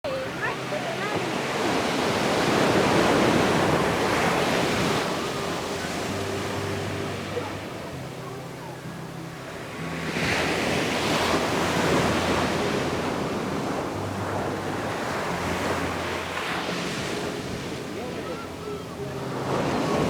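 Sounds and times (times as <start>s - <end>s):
surf rushing: 0.1s - 20.0s
waves crashing on beach: 0.1s - 20.0s.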